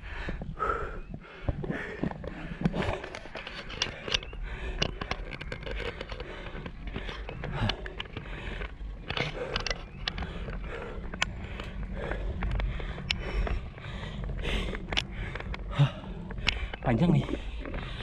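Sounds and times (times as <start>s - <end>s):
bike clicking and rattling: 0.0s - 18.0s
rider breathing hard: 0.0s - 18.0s.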